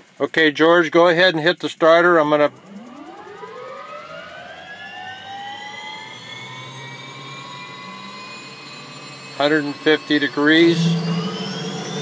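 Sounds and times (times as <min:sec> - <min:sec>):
turboprop engine spooling up: 0:00.8 - 0:12.0.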